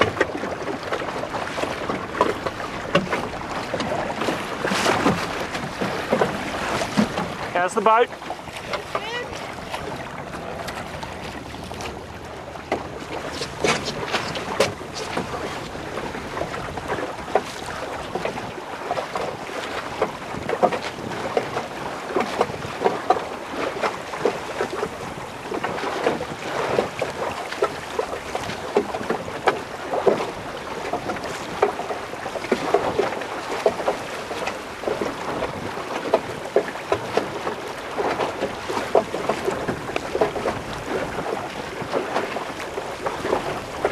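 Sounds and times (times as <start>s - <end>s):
water splashing against boat hull: 0.0s - 43.9s
wind on microphone: 8.3s - 43.9s.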